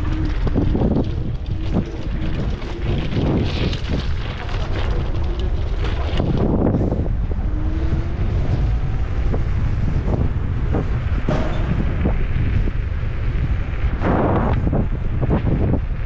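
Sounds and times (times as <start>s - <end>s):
knocks and rattles from road: 0.0s - 7.2s, 8.2s - 16.0s
wind buffeting microphone: 0.0s - 16.0s.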